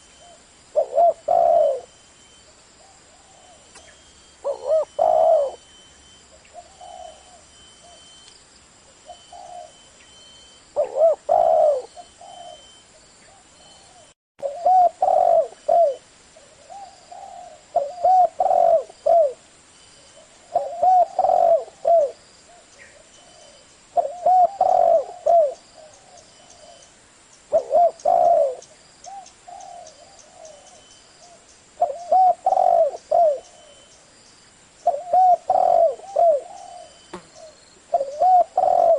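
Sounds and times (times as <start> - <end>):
dove cooing: 0.0 - 2.0, 2.8 - 5.7, 6.3 - 8.1, 9.0 - 9.9, 10.8 - 19.4, 20.2 - 26.9, 27.5 - 33.9, 34.8 - 38.9.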